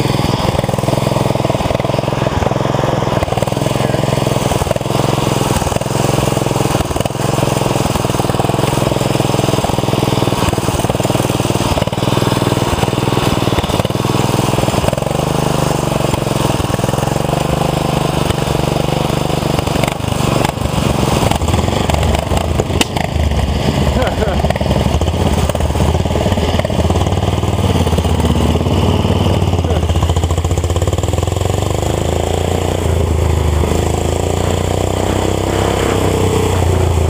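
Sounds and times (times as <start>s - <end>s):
lawn tractor engine running hard: 0.0s - 37.0s.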